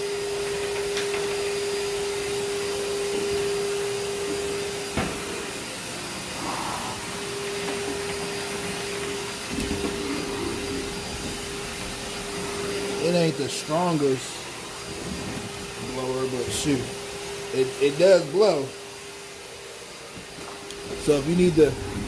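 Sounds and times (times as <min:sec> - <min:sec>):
vacuum motor tone: 0:00.0 - 0:22.0
air rushing from blower: 0:01.7 - 0:22.0.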